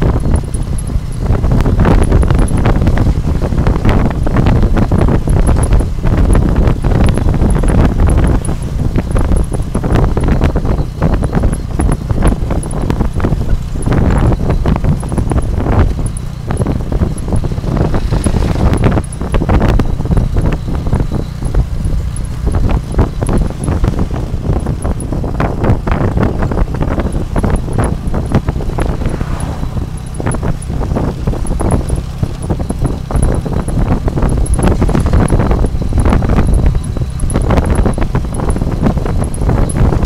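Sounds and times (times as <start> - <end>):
motorbike engine rumble: 0.0 - 40.0
tyres on the road: 0.0 - 40.0
wind buffeting microphone: 0.0 - 40.0.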